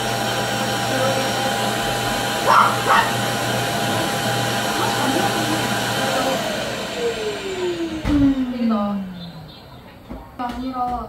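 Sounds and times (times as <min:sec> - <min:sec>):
vacuum cleaner motor spinning down: 0:00.0 - 0:09.8.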